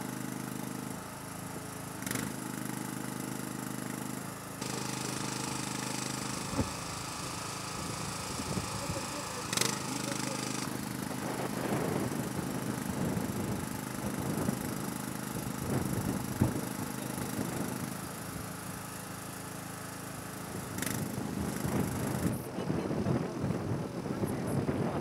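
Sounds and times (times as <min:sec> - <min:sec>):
engine humming: 0:00.0 - 0:25.0
work-site and street noise: 0:00.0 - 0:25.0.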